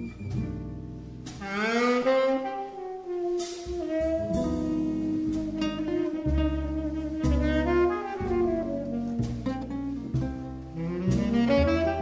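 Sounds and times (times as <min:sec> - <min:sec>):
jazz rhythm section: 0:00.0 - 0:12.0
tenor saxophone ballad melody: 0:01.4 - 0:12.0.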